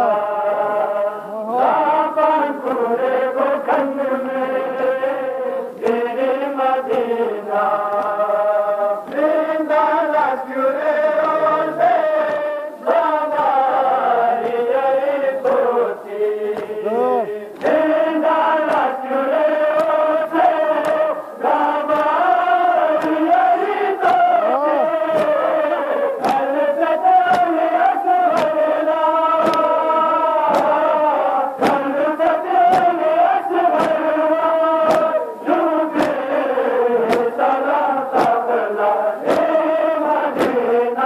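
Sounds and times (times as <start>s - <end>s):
men chanting together: 0.0s - 41.0s.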